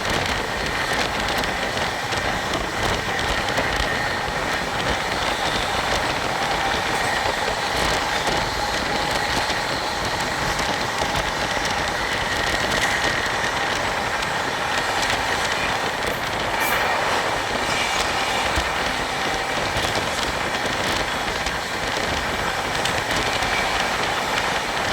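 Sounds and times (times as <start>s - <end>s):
train rumbling on rails: 0.0s - 24.9s
wheel clatter: 0.0s - 24.9s.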